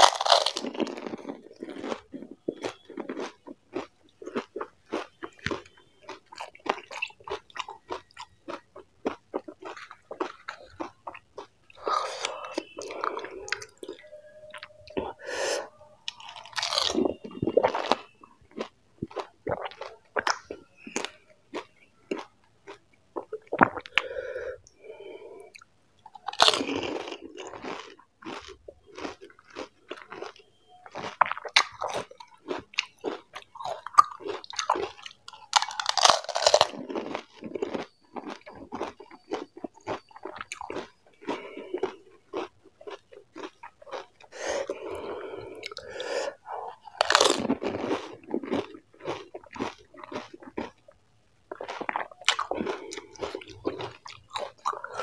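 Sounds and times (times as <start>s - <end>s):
crunching and wet chewing: 0.0s - 55.0s.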